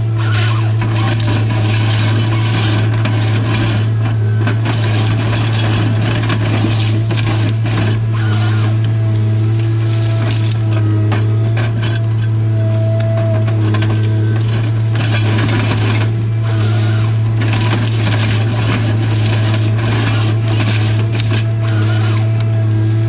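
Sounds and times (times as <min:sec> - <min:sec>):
harvester engine running: 0:00.0 - 0:23.0
harvester head crackling and rattling: 0:00.0 - 0:23.0.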